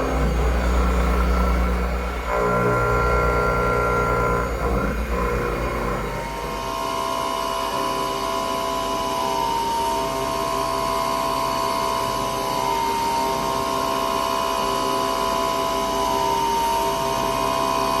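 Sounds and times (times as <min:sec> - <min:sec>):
milling machine whine: 0:00.0 - 0:18.0.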